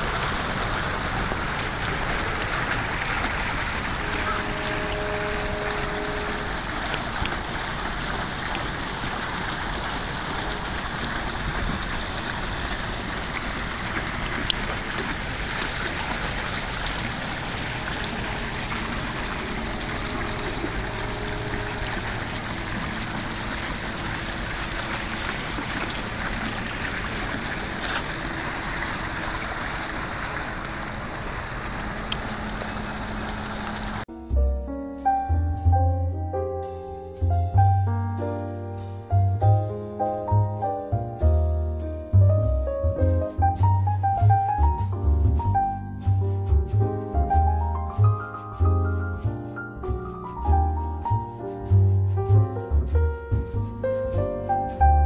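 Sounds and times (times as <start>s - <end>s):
fountain water splashing: 0.0s - 34.0s, 37.3s - 55.0s.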